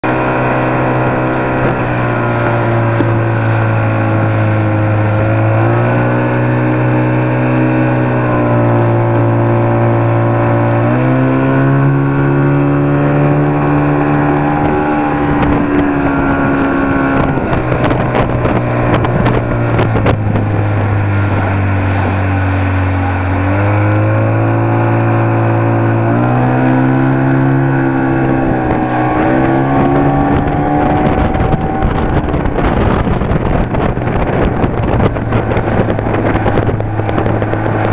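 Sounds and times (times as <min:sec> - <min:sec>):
motorboat engine running: 0:00.0 - 0:37.9
wind buffeting microphone: 0:00.0 - 0:37.9.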